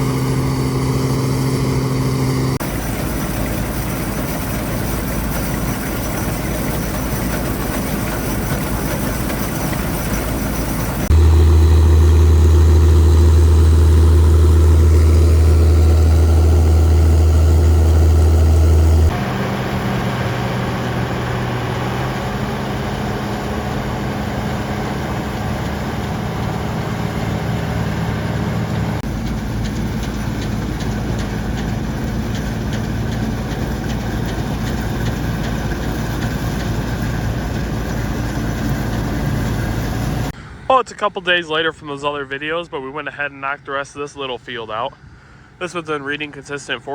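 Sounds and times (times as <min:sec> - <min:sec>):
farm machinery engines running: 0:00.0 - 0:46.9.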